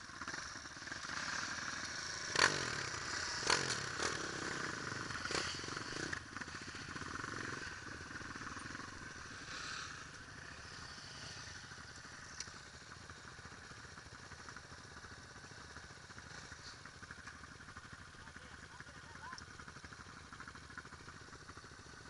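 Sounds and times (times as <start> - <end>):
dirt bike engine idling: 0.0 - 22.0.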